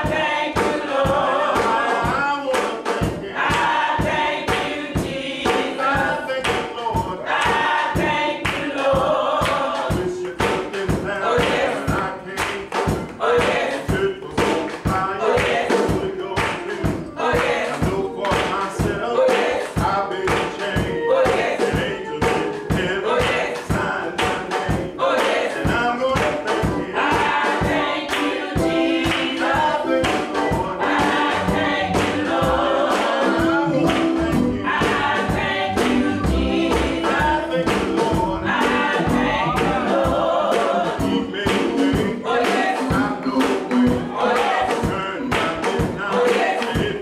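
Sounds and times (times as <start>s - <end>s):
choir singing gospel song: 0.0s - 47.0s
instrumental accompaniment: 0.0s - 47.0s
steady percussive beat: 0.0s - 47.0s.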